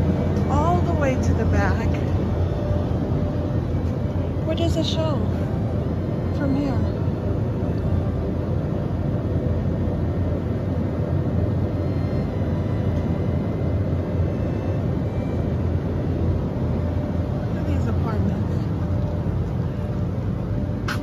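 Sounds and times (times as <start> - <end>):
faint hum: 0.0 - 21.0
steady low rumble: 0.0 - 21.0.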